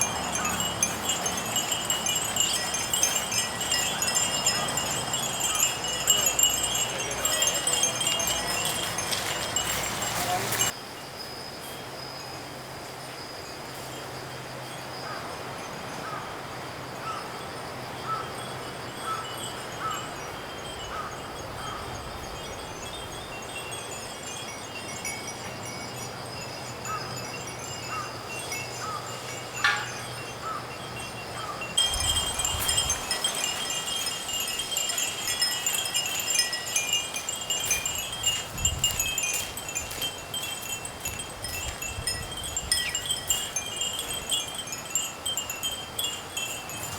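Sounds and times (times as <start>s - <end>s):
wind chimes tinkling: 0.0s - 11.4s, 17.5s - 46.9s
insects calling: 0.0s - 46.9s.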